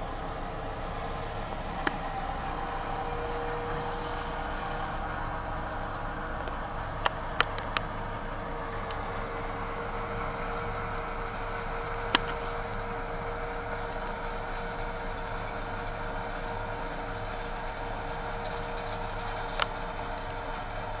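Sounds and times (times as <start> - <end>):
car engine drone: 0.0 - 21.0.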